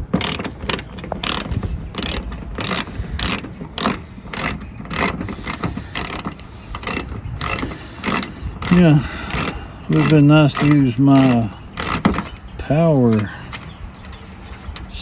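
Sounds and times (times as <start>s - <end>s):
ratchet wrench clicking: 0.0s - 12.4s.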